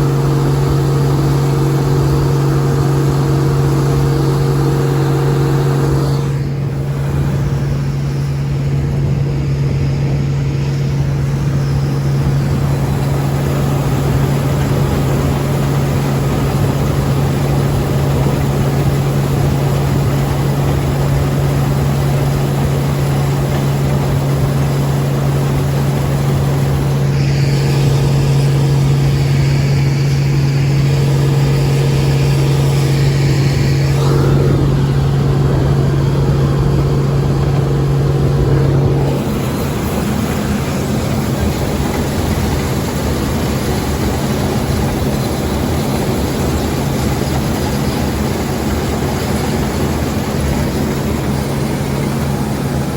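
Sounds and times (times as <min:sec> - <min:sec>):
combine harvester droning: 0:00.0 - 0:52.9.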